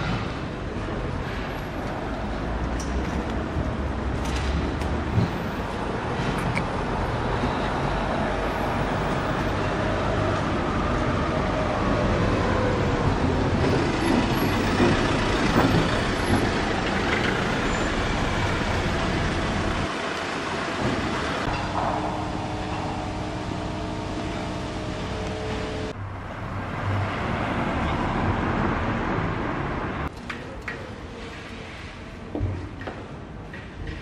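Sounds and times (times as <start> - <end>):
road noise and rumble: 0.0 - 34.0.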